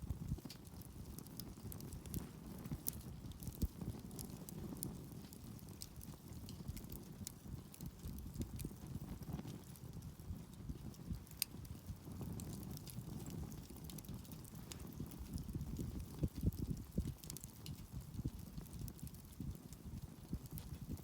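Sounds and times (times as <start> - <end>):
campfire crackling and popping: 0.0 - 21.0
low fire rumble: 0.0 - 21.0.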